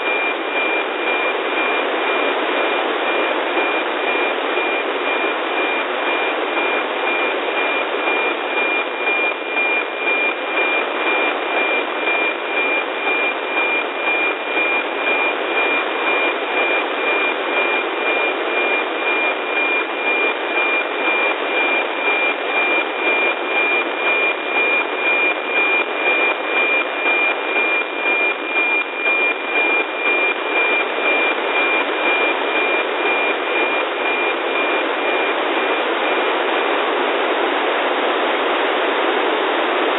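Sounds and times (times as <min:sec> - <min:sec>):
pulsing radio tone: 0:00.0 - 0:39.9.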